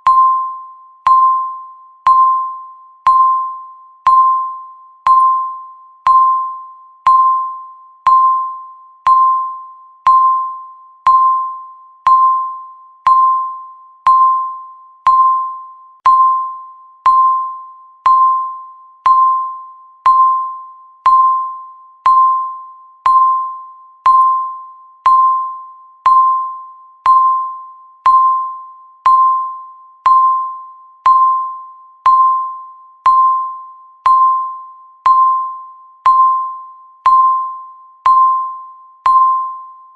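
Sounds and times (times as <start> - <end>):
timer bell-like ding: 0.0 - 39.9.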